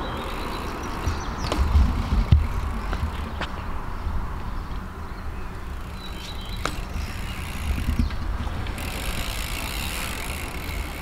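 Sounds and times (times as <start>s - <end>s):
bicycle tyre rumble: 0.0s - 11.0s.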